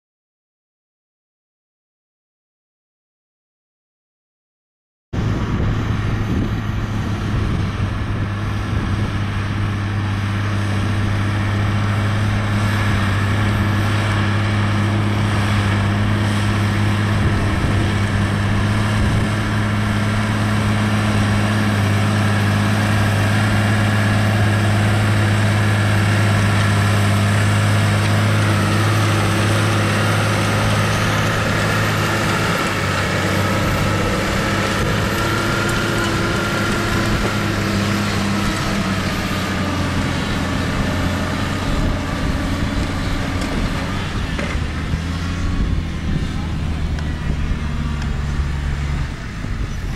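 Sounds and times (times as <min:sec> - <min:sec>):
faint engine whine: 0:05.2 - 0:49.9
tractor diesel engine droning: 0:05.2 - 0:49.9.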